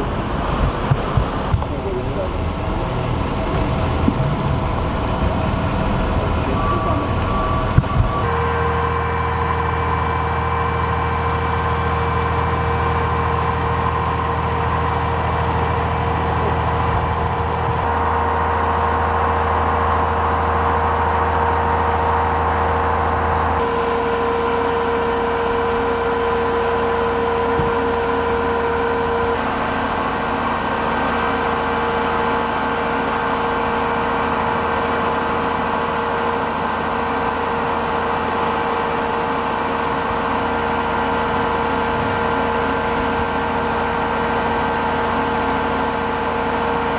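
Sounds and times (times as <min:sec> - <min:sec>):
truck engines idling: 0:00.0 - 0:46.9.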